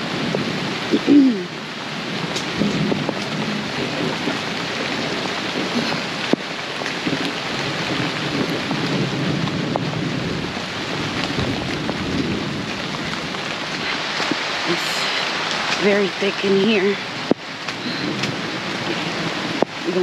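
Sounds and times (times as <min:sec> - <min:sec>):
heavy rain hissing: 0:00.0 - 0:20.0
thunder rumbling: 0:00.0 - 0:20.0.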